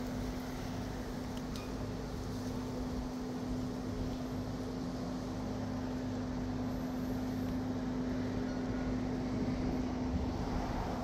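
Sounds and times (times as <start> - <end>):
low machine hum: 0.0 - 11.0
wind and rain hiss: 0.0 - 11.0.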